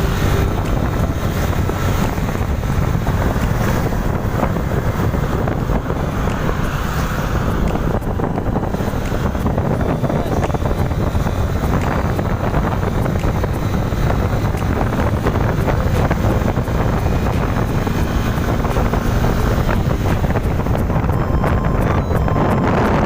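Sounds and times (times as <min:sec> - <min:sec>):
motorcycle engine: 0:00.0 - 0:23.0
road noise: 0:00.0 - 0:23.0
wind buffeting microphone: 0:00.0 - 0:23.0.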